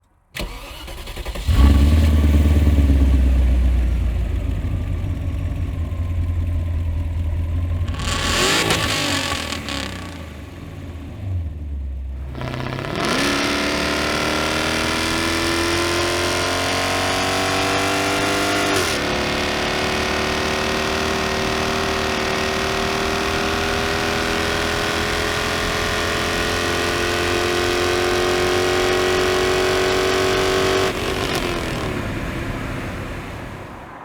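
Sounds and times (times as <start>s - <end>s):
car engine idling and revving: 0.4s - 34.0s.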